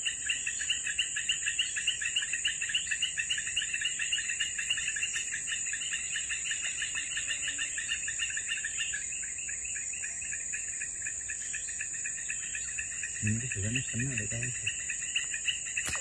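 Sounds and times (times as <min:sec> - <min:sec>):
insect chirps: 0:00.0 - 0:16.0
insect drone: 0:00.0 - 0:16.0.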